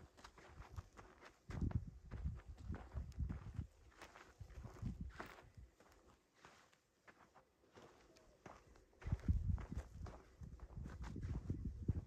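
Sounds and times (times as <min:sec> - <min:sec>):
footsteps on dry dirt: 0:00.0 - 0:12.0.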